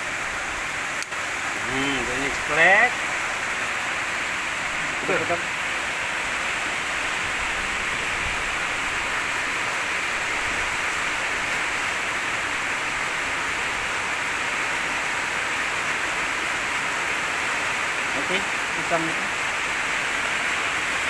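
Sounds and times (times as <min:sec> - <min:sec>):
high-pressure water spraying: 0:00.0 - 0:21.0.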